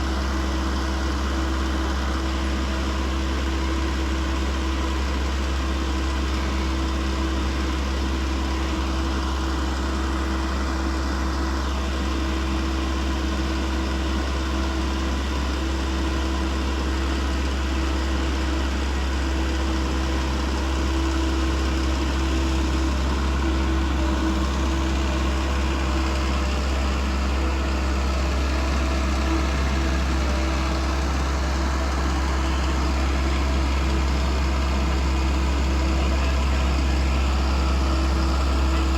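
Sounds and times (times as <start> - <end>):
engine humming and rumbling: 0.0 - 38.9.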